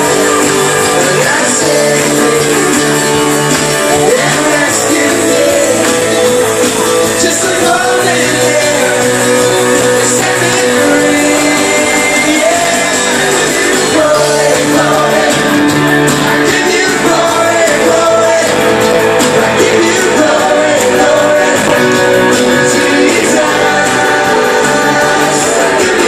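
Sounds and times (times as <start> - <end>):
guitar: 0.0 - 26.0
person singing: 0.0 - 26.0
worship band playing: 0.0 - 26.0.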